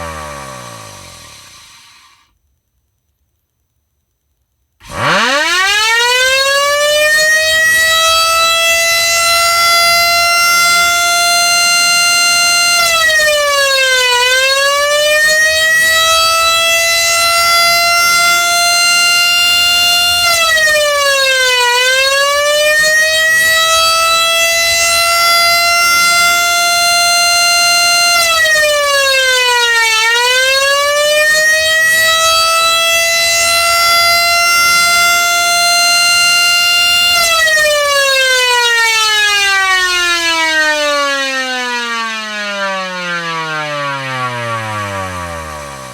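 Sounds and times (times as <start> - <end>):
motor siren wailing: 0.0 - 2.2, 4.8 - 45.9.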